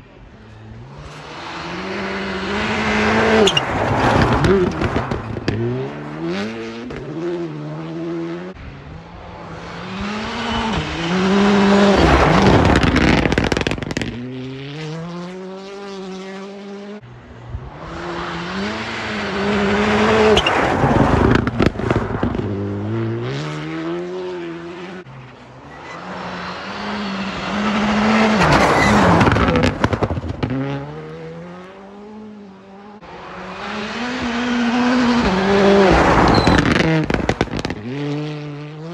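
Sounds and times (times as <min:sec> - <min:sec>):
rally car engines revving past: 0:00.2 - 0:38.9.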